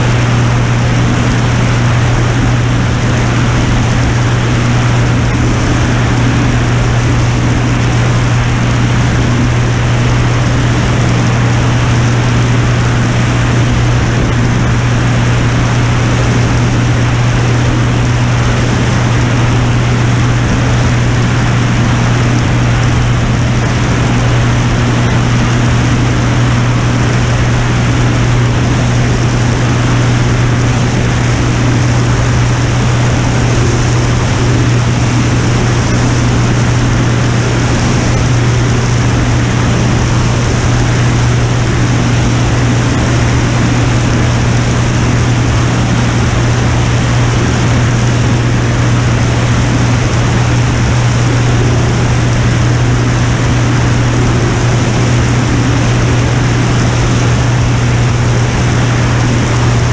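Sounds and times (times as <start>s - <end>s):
propeller plane engine drone: 0.0s - 59.9s
rushing air noise: 0.0s - 59.9s.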